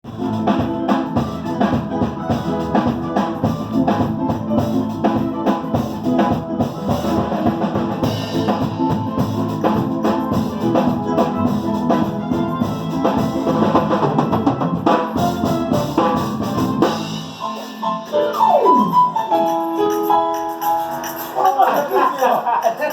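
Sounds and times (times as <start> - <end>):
music with drum beat: 0.0 - 22.9.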